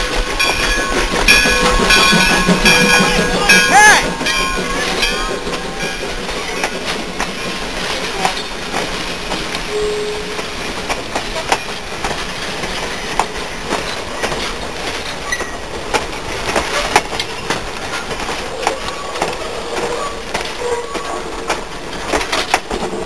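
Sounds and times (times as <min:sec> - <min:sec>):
clacks over rail joints: 0:00.0 - 0:23.0
train wheels rumbling on rails: 0:00.0 - 0:23.0.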